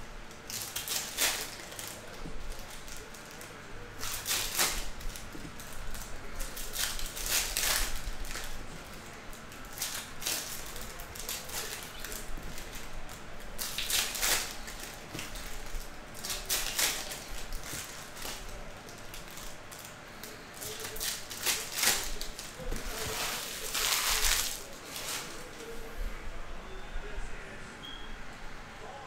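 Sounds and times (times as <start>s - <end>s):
foil wrappers crinkling and tearing: 0.3s - 25.8s.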